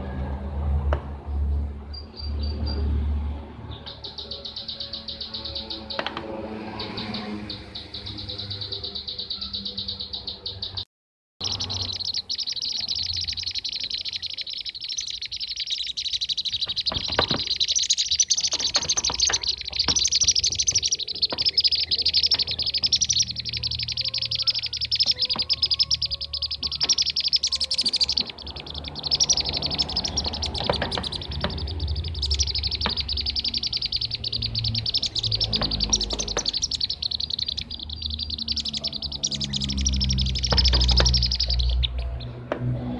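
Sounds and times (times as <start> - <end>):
birds trilling chirps: 1.2 - 42.9.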